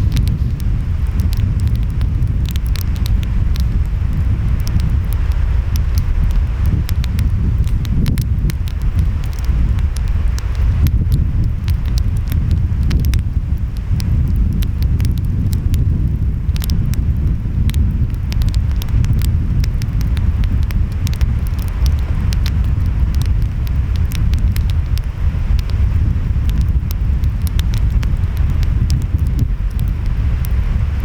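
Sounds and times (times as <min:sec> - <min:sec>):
wind: 0:00.0 - 0:31.0
wood fire crackling and popping: 0:00.0 - 0:31.0.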